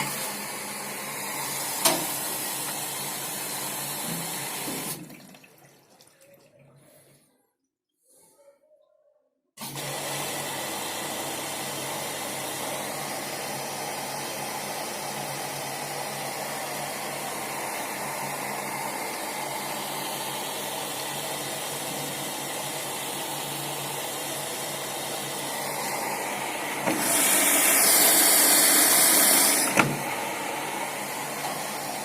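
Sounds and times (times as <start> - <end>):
washing machine water rushing: 0.0 - 7.3, 9.6 - 32.0.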